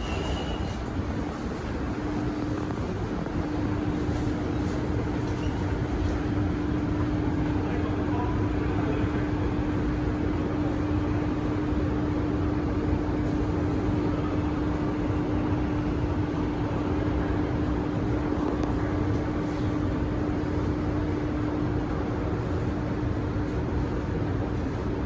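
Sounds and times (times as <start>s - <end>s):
constant hum: 0.0s - 25.0s
metro train cabin rumble: 0.0s - 25.0s.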